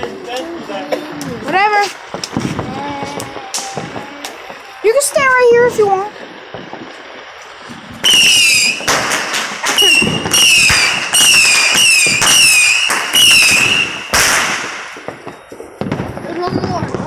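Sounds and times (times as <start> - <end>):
firework hissing: 0.0 - 17.0
whistling firework: 1.3 - 17.0.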